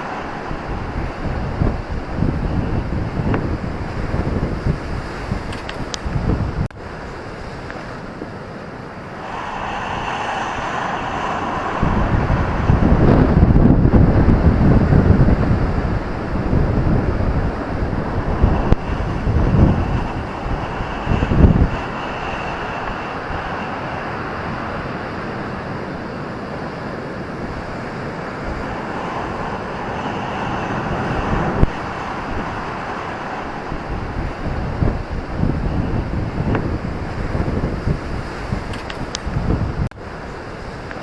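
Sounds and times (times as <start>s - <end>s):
waves breaking on a beach: 0.0s - 41.0s
wind buffeting microphone: 0.0s - 41.0s.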